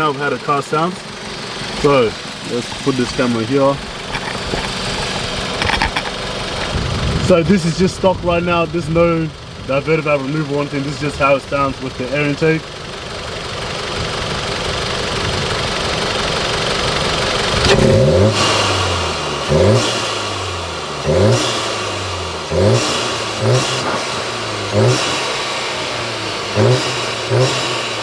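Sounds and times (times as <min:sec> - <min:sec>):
car engine idling: 0:00.0 - 0:28.0
engine revving: 0:00.0 - 0:28.0.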